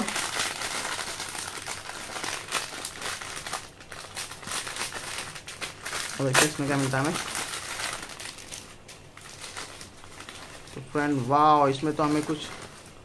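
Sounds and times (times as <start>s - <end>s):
foil packets crinkling: 0.0s - 13.0s.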